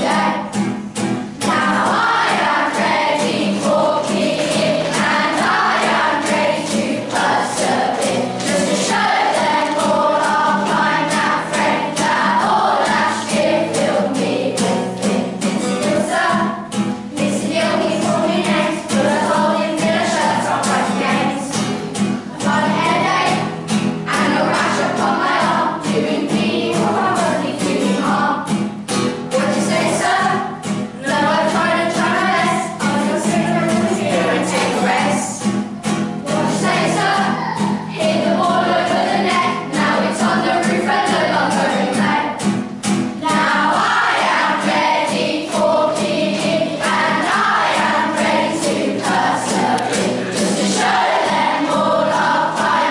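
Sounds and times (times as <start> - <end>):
children's choir singing: 0.0 - 52.9.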